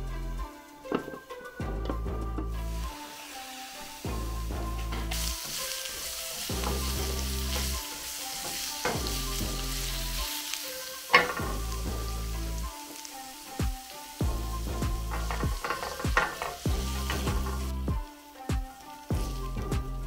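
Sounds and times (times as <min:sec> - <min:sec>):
oil and egg sizzling in a pan: 0:00.0 - 0:20.0.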